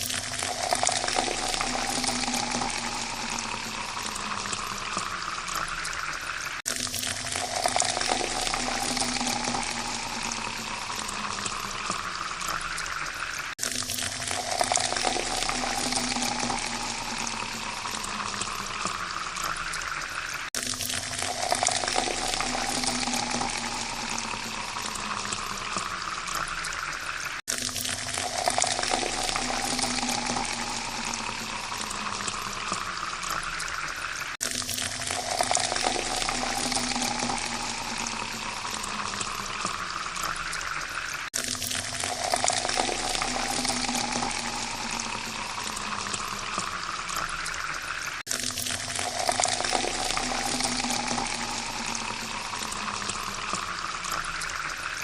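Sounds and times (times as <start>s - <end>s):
water pouring into a glass: 0.0s - 55.0s.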